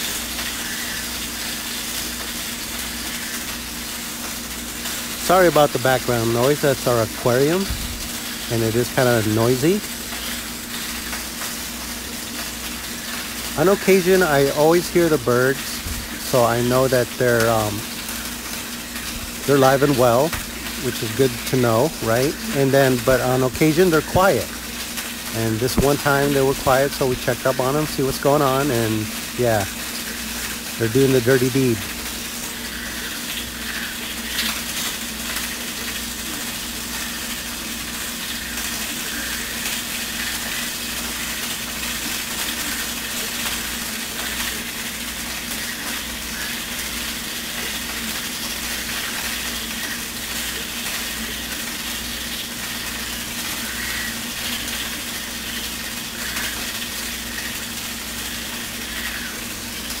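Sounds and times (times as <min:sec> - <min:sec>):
aquarium pump humming: 0:00.0 - 1:00.0.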